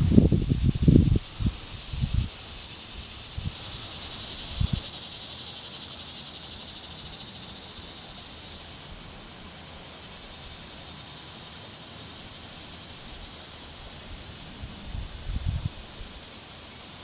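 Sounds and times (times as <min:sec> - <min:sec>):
cicadas chorus: 0:00.0 - 0:17.0.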